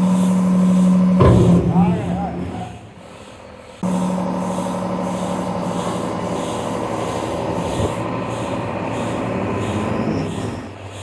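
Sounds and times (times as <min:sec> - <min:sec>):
diesel truck engine revving: 0:00.0 - 0:11.0.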